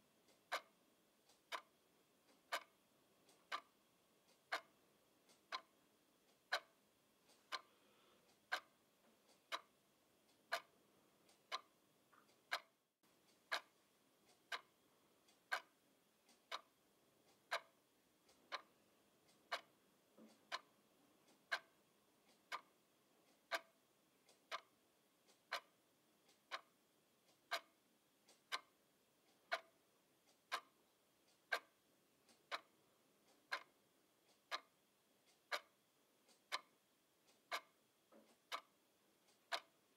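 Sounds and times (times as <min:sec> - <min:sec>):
alarm clock ticking: 0:00.0 - 0:39.9.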